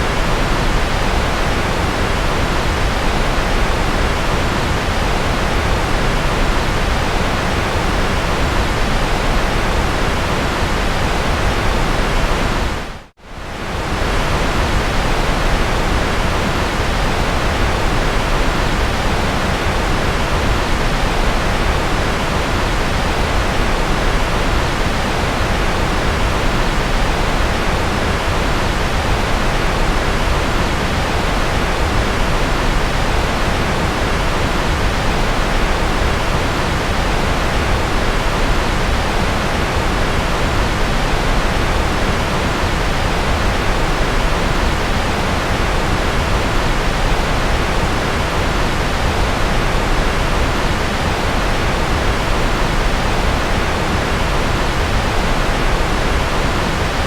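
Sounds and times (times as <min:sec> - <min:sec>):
steady white noise hiss and rumble: 0:00.0 - 0:57.0.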